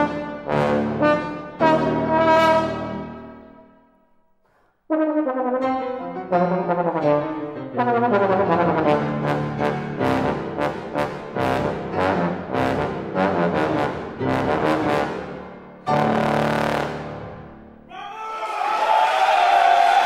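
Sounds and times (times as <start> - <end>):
bass trombone playing: 0.0 - 3.4, 4.9 - 17.8
piano chords: 0.0 - 3.7, 5.0 - 17.9.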